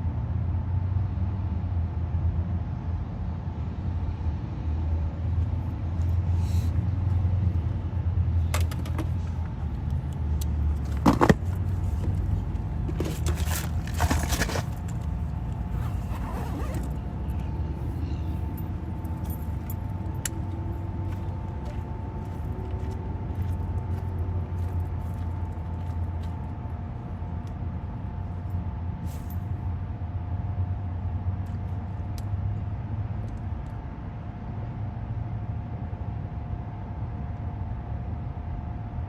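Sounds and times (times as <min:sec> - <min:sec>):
road traffic rumble: 0:00.0 - 0:38.5.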